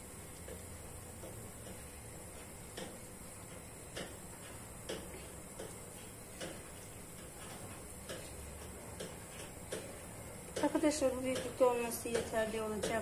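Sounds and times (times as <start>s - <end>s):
soft clicks of hands rolling dough: 0.0s - 13.0s.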